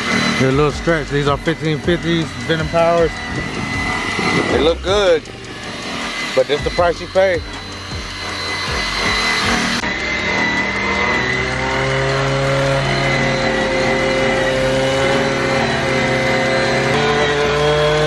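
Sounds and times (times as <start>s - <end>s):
orbital sander on metal wheel: 0.0s - 18.0s.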